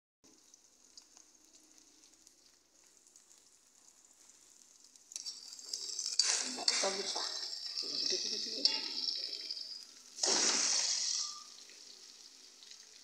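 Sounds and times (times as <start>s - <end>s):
small crackles of oil: 0.3s - 13.0s
vegetables sizzling in oil: 0.3s - 13.0s.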